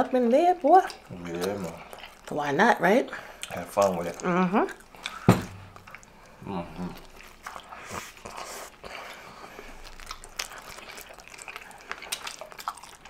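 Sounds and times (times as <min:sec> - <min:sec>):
person chewing food: 0:00.8 - 0:13.0.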